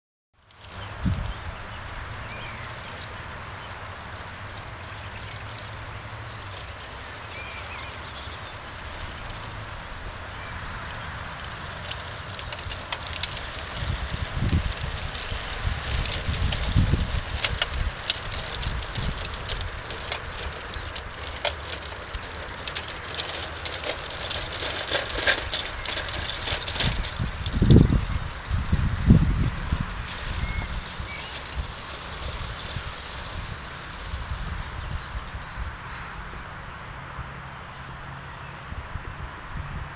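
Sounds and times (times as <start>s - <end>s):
model train wheels clicking on rails: 0.5s - 35.5s.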